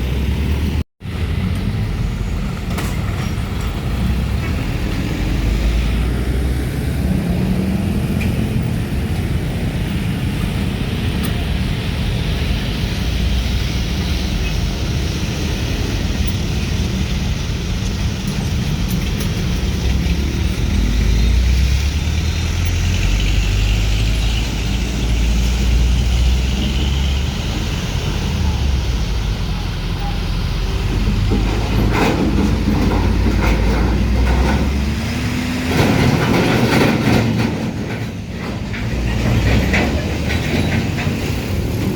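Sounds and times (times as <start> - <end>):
diesel truck engine rumble: 0.0 - 41.9
tyre and road noise: 0.0 - 41.9.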